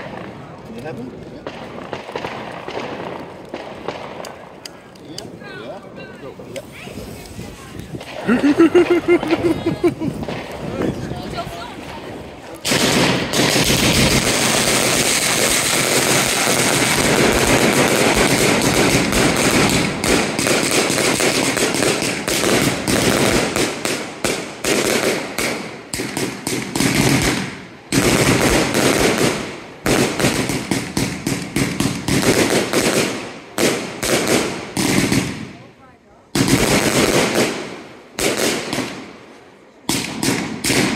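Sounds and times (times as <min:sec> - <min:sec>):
fireworks crackling shots: 0:00.0 - 0:40.9.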